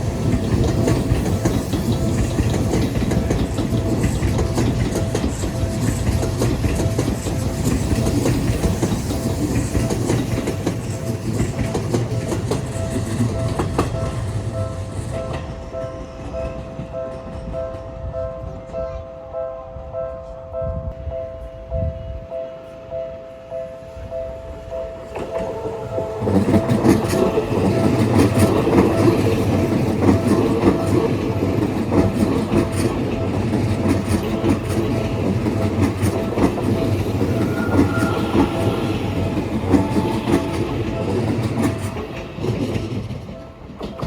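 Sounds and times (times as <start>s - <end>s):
train wheels clattering: 0.0s - 18.5s, 24.6s - 44.0s
two-tone crossing warning bell: 0.0s - 18.7s, 20.7s - 44.0s.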